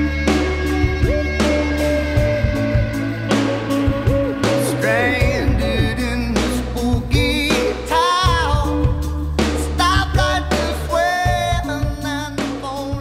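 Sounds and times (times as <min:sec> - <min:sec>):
song with singing over band: 0:00.0 - 0:13.0.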